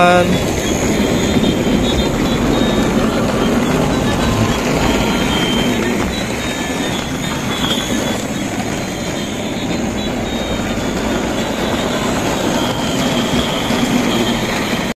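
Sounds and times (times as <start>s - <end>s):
toy trains whirring: 0.0s - 14.9s.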